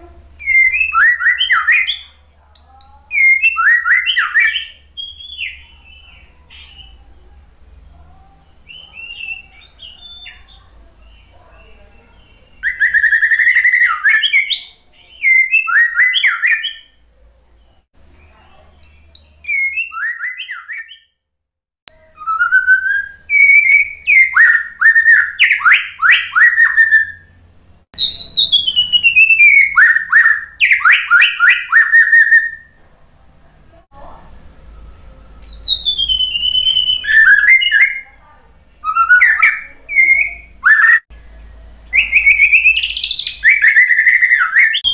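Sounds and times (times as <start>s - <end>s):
bird singing varied phrases: 0.2s - 17.0s, 17.6s - 21.1s, 21.9s - 32.8s, 34.8s - 44.9s.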